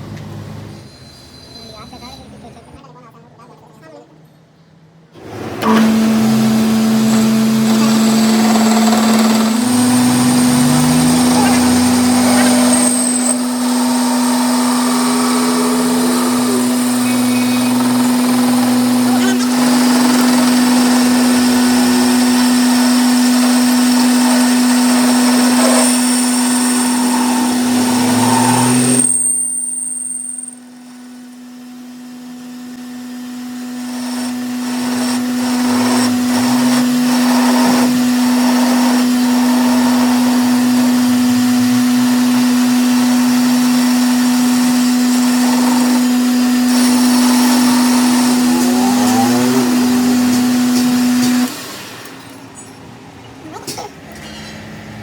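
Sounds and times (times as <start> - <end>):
metal lathe running: 5.2 - 52.9.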